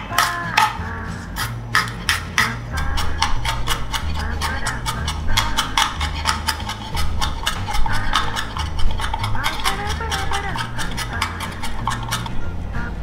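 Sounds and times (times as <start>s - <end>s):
background music: 0.0s - 13.0s
cleaver chopping on wooden board: 1.4s - 12.3s.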